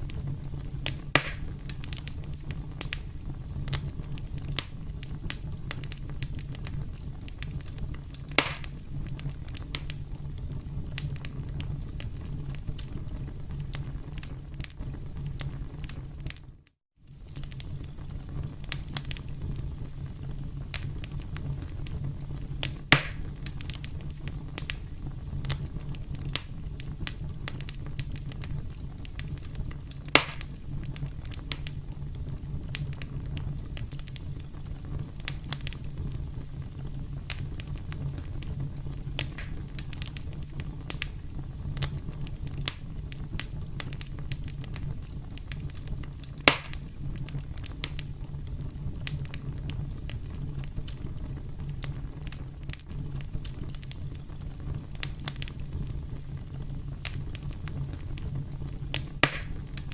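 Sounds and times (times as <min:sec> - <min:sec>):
fire low rumble: 0:00.0 - 0:59.9
loud fire pops: 0:00.0 - 0:59.9
wood fire crackling: 0:00.0 - 0:59.9.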